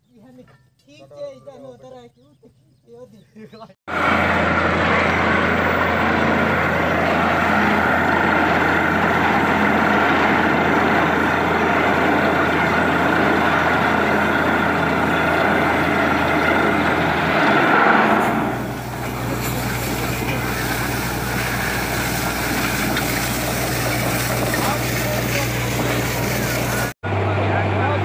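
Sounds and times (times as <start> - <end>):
air blowing water and rock: 3.9 - 27.0
drilling rig running: 3.9 - 28.0.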